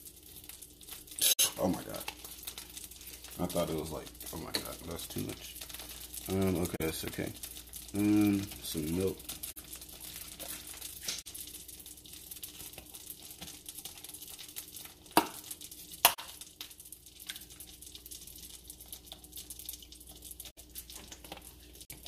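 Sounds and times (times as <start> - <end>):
butter sizzling in frying pan: 0.0 - 22.0.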